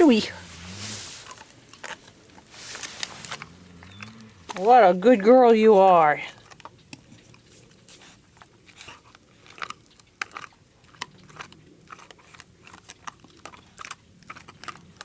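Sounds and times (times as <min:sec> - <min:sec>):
dog gnawing on chew: 0:00.6 - 0:15.0.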